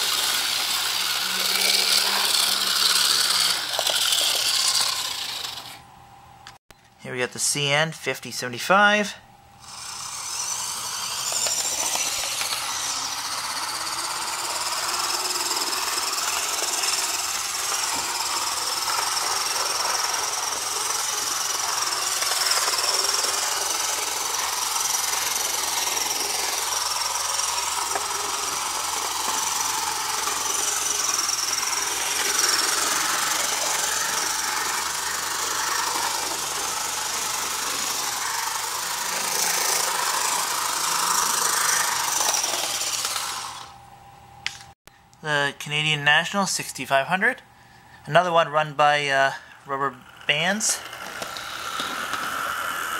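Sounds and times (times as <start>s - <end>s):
model train wheels rattling on rail: 0.0s - 5.8s, 9.6s - 43.7s, 48.4s - 52.9s
small electric motor whining: 0.0s - 6.6s, 9.6s - 43.9s, 48.5s - 52.9s.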